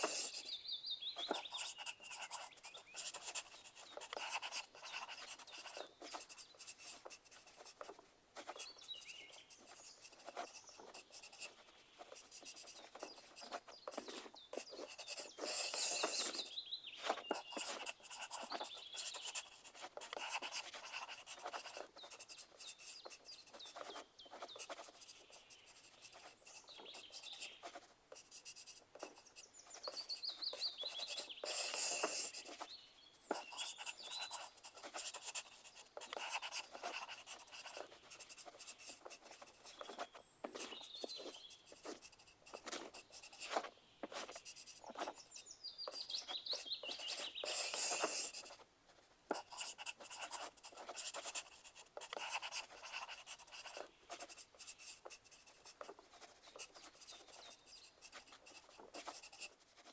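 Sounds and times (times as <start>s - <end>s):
pencil writing on paper: 0.0s - 0.6s, 1.2s - 32.7s, 33.3s - 48.6s, 49.3s - 59.9s.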